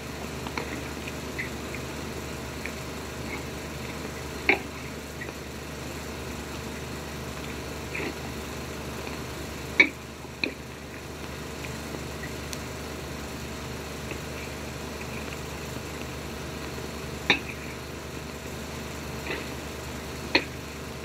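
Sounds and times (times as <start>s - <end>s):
film soundtrack hum and hiss: 0.0s - 21.0s.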